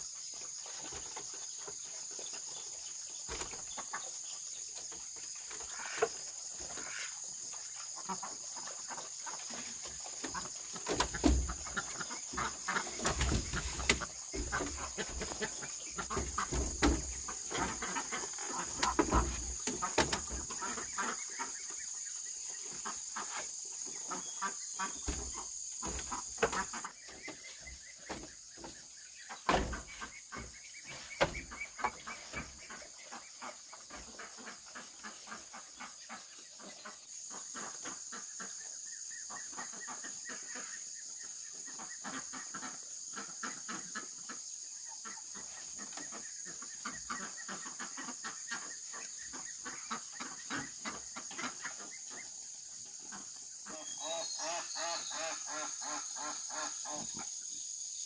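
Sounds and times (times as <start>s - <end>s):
chickens clucking: 0.0s - 57.6s.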